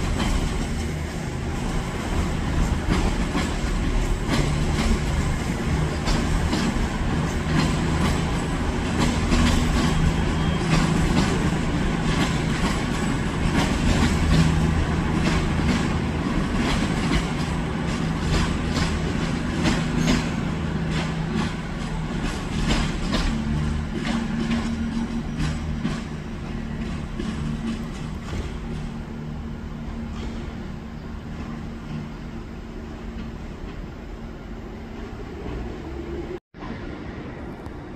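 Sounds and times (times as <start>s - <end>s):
train wheels clicking over joints: 0.0s - 36.4s.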